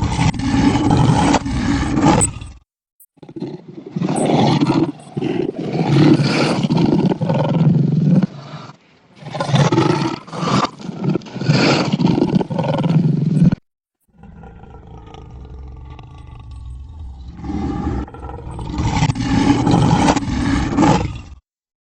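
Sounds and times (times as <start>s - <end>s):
low growl: 0.0s - 2.6s, 3.2s - 21.5s
reversed lion roars: 0.0s - 2.6s, 3.2s - 21.4s.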